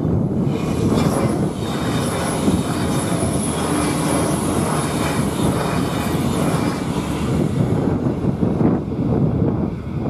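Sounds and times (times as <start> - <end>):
train engine drone: 0.0 - 10.0
train wheels on rails: 0.0 - 10.0.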